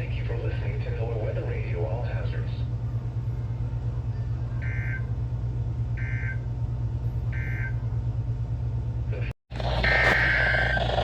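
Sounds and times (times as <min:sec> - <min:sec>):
low hum from radio: 0:00.0 - 0:11.0.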